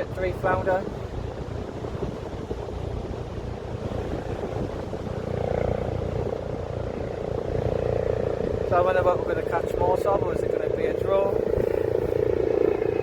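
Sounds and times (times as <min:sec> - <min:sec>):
steady engine drone: 0:00.0 - 0:13.0
wind rumbling on microphone: 0:00.0 - 0:13.0.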